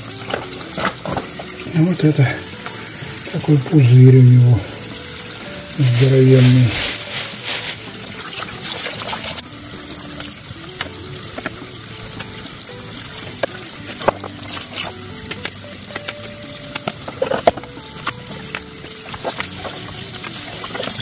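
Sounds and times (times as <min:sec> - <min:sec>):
soft background music: 0:00.0 - 0:21.0
tap water running into sink: 0:00.0 - 0:21.0.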